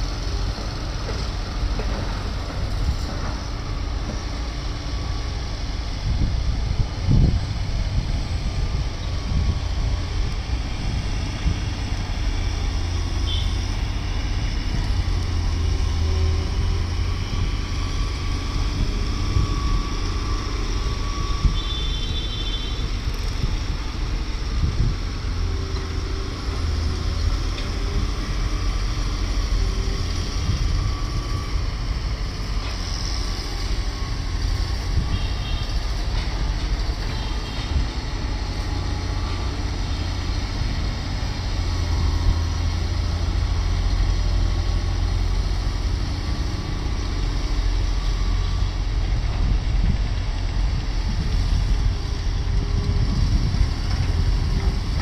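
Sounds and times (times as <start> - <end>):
diesel engine rumble: 0.0 - 55.0.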